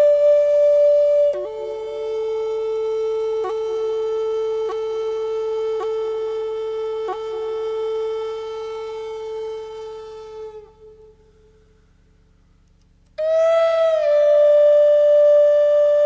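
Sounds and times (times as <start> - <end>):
flute-like wind instrument notes: 0.0 - 11.9, 13.2 - 16.0.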